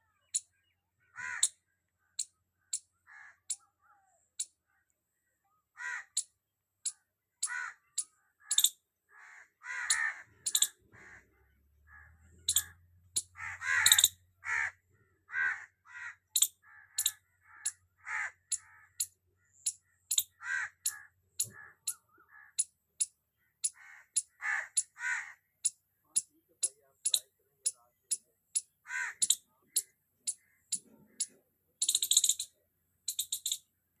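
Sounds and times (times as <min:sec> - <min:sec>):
squirrel chirping and rasping: 0:00.0 - 0:03.7, 0:05.9 - 0:08.8, 0:09.8 - 0:11.2, 0:11.9 - 0:14.7, 0:16.1 - 0:34.0.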